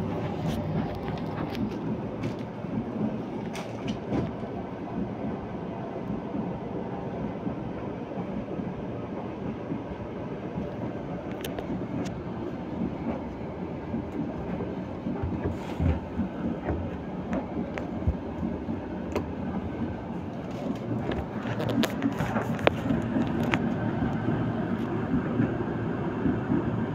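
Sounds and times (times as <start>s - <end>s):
tumble dryer drum rumbling: 0.0s - 6.6s, 9.4s - 26.9s.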